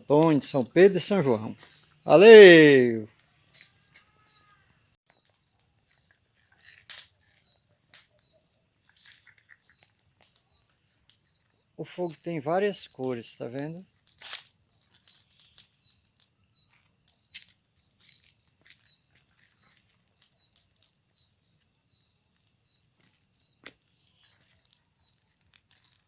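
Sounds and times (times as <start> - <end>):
bonfire crackling and popping: 0.0 - 3.7, 5.1 - 26.0
crickets chirping: 0.0 - 26.0.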